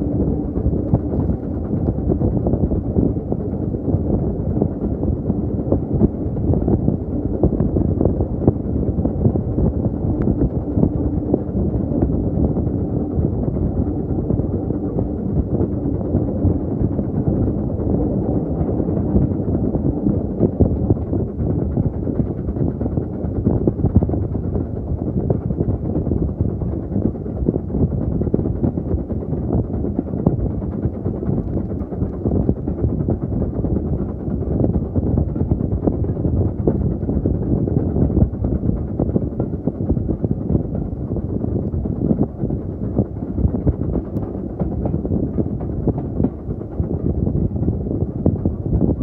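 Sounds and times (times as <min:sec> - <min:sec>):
wind on microphone: 0:00.0 - 0:49.0.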